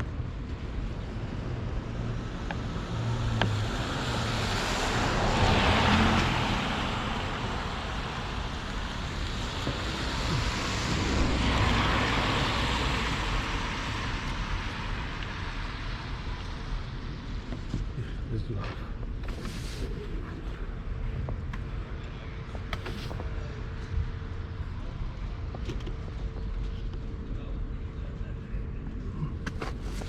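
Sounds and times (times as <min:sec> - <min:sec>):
steady traffic rumble: 0:00.0 - 0:30.0
vehicles passing by: 0:00.0 - 0:30.0.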